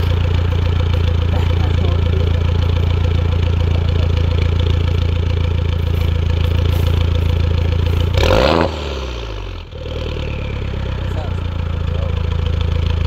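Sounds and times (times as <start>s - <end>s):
car exhaust idling and revving: 0.0s - 13.0s.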